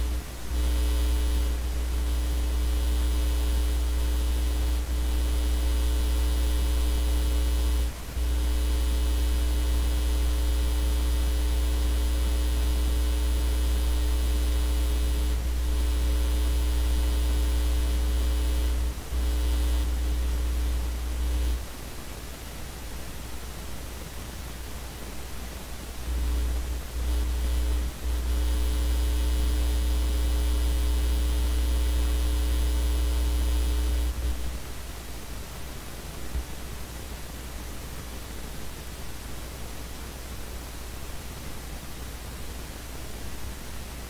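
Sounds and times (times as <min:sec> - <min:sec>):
electrical mains hum: 0:00.0 - 0:44.0
quiet hiss: 0:00.0 - 0:44.0.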